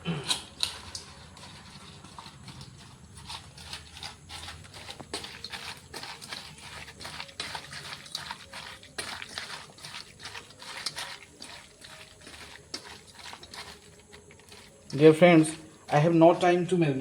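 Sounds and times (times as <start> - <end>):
chicken being mixed in a bowl: 0.0 - 16.9.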